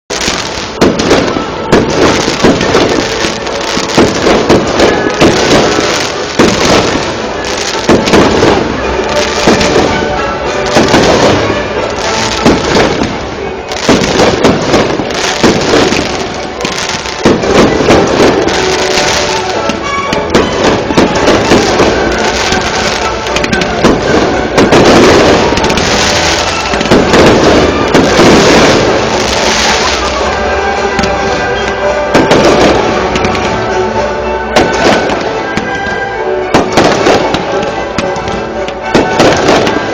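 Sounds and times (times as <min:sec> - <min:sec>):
fireworks bangs and crackling: 0:00.1 - 0:39.9.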